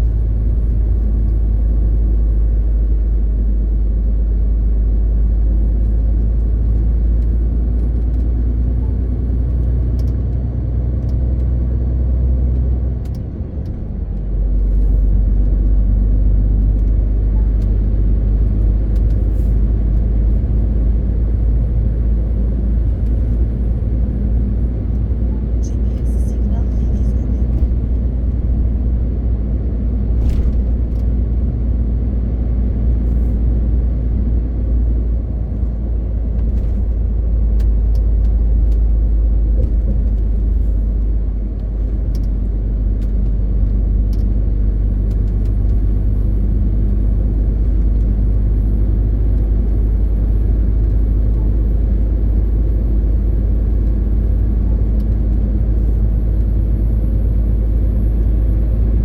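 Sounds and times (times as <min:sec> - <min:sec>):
road rumble: 0:00.0 - 0:59.0
truck diesel engine droning: 0:00.0 - 0:59.0.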